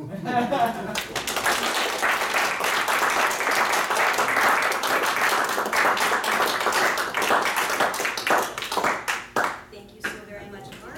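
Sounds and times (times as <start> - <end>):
audience applauding: 0.7 - 9.6.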